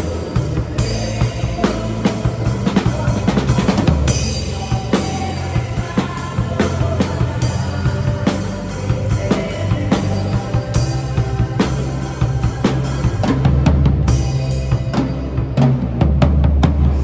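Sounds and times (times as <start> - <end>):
drum kit playing rock beat: 0.0 - 17.0
sustained low bass notes: 0.0 - 17.0.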